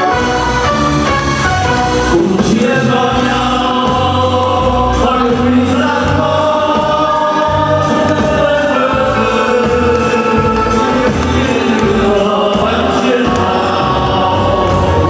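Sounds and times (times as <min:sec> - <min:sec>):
choir singing held notes: 0:00.0 - 0:15.0
steady bass: 0:00.0 - 0:15.0.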